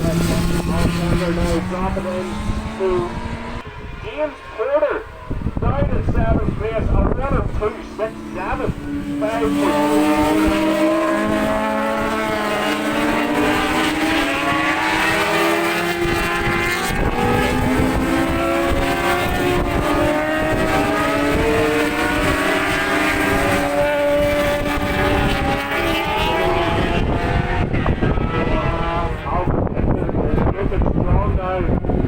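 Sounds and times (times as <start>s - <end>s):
wind on microphone: 0.0s - 4.1s, 5.1s - 32.0s
racing motorcycles passing: 0.0s - 32.0s.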